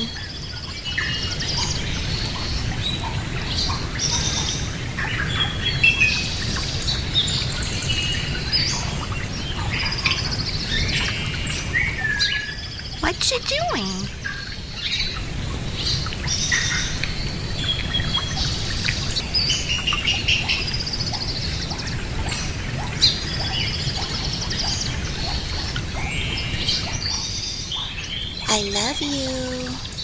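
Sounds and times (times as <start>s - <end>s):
low background noise: 0.0s - 30.0s
pet birds chirping and trilling: 0.0s - 30.0s.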